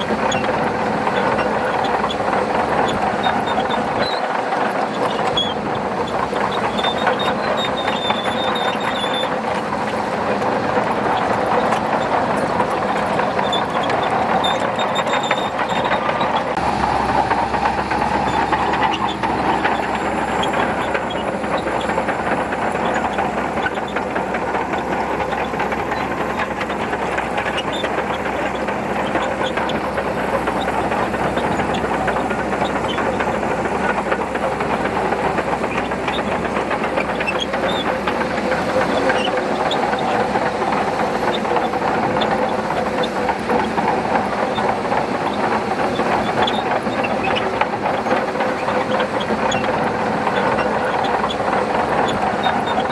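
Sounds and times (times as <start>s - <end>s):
bulldozer engine running: 0.0s - 52.9s
steel tracks clattering: 0.0s - 52.9s.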